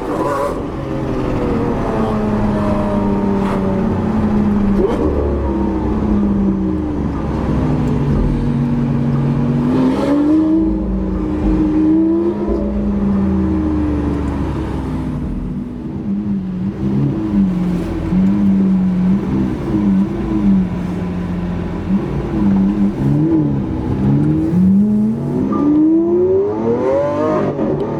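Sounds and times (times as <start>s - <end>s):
loud sports car engine running: 0.0s - 25.5s.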